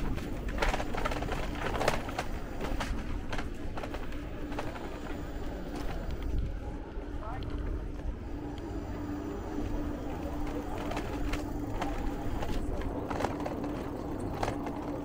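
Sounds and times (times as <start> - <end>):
bicycle rolling over cobblestones: 0.0 - 15.0.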